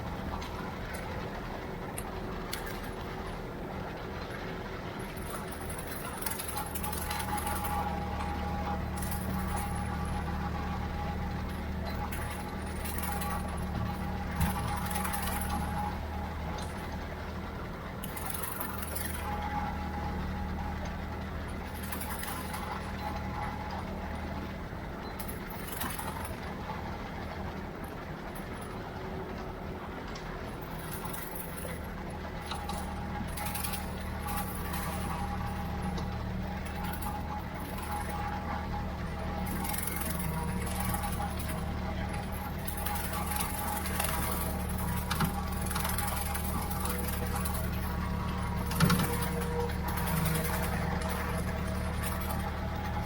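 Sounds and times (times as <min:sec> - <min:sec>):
tractor engine running: 0:00.0 - 0:53.0
light clicks and rattles: 0:00.1 - 0:53.0.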